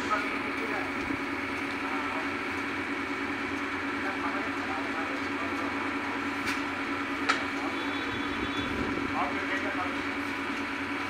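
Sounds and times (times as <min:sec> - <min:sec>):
truck engine and hydraulic hoist hum: 0:00.0 - 0:11.0.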